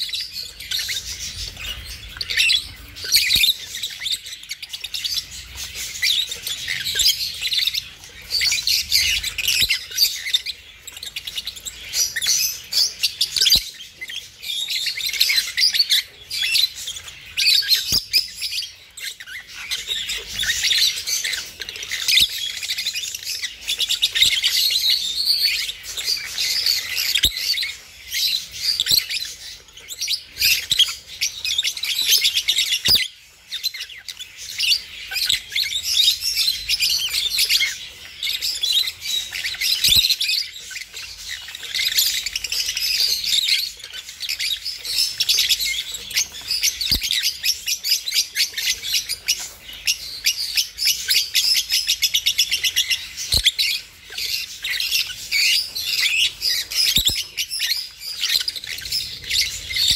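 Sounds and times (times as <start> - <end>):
budgerigars chirping: 0.0 - 59.9.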